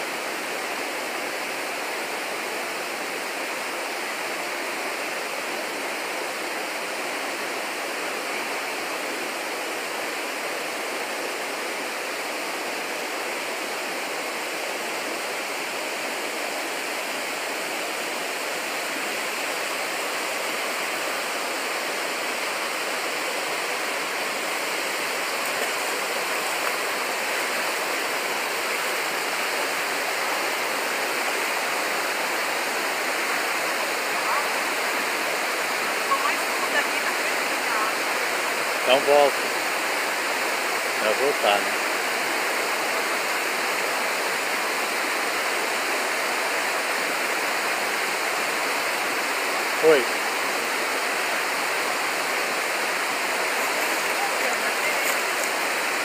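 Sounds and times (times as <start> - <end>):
stream and waterfall rushing: 0.0 - 56.0.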